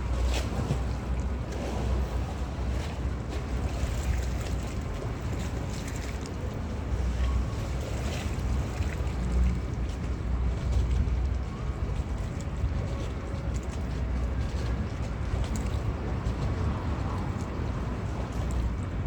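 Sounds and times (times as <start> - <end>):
boat engines rumbling: 0.0 - 19.0
moving water: 0.0 - 19.0.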